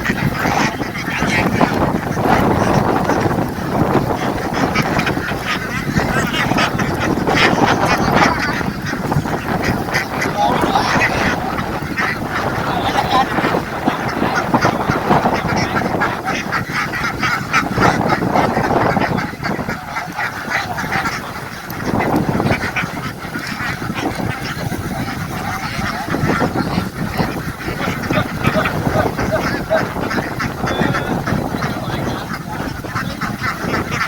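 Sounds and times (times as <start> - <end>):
ducks quacking: 0.0 - 34.0.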